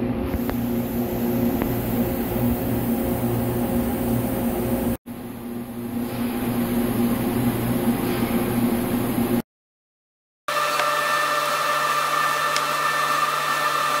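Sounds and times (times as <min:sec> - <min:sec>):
machinery humming: 0:00.0 - 0:09.4, 0:10.5 - 0:14.0.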